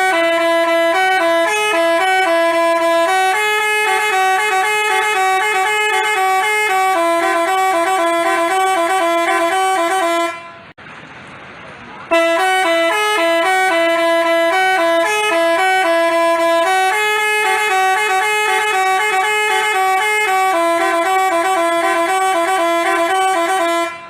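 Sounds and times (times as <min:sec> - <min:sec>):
bus musical horn tune: 0:00.0 - 0:10.8, 0:12.1 - 0:24.0.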